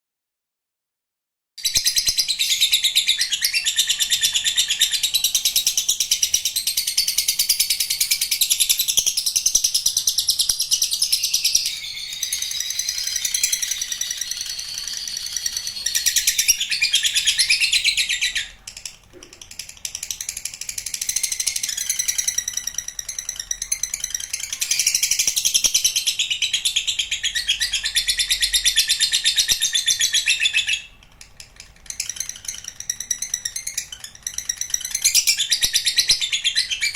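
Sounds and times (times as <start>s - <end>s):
lovebird chattering trill: 1.7s - 36.9s.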